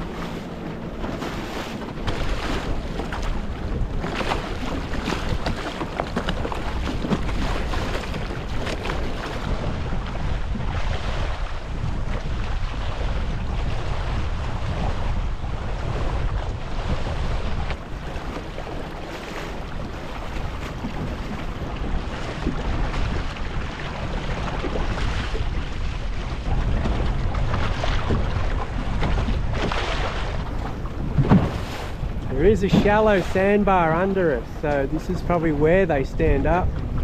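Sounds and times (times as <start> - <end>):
water splashing along hull: 0.0 - 37.0
wind buffeting microphone: 0.0 - 37.0.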